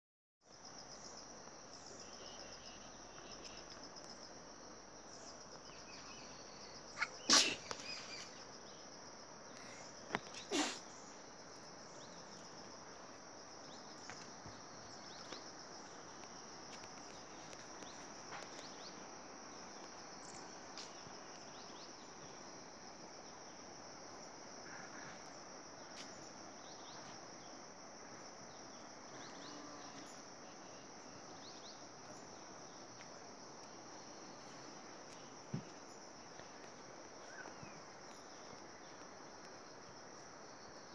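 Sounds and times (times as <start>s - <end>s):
faint background hiss: 0.5s - 40.9s
insects trilling: 0.5s - 40.9s.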